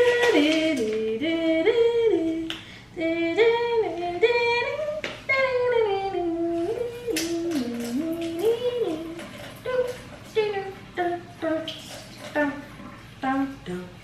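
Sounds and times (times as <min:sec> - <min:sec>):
woman singing wordless tune: 0:00.0 - 0:14.0.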